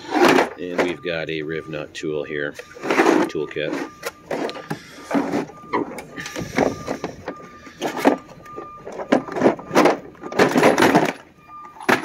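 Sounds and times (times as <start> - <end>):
plastic cases clattering in drawer: 0.0 - 1.0, 2.6 - 12.0.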